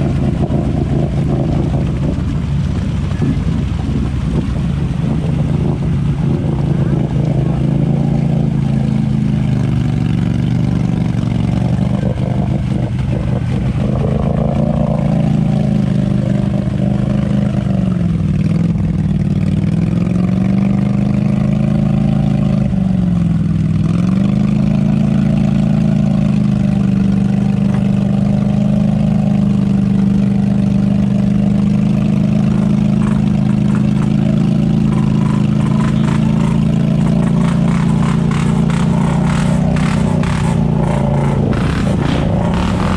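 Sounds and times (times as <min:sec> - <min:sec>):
atv engine revving in mud: 0:00.0 - 0:42.9.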